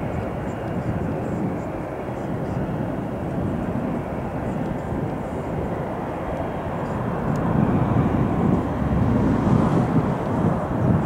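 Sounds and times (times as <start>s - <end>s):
jet engines hissing: 0.0s - 11.0s.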